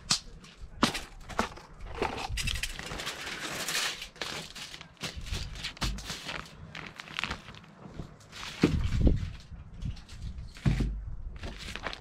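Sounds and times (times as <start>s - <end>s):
foil and plastic bag crinkling: 1.4s - 10.8s, 11.4s - 12.0s.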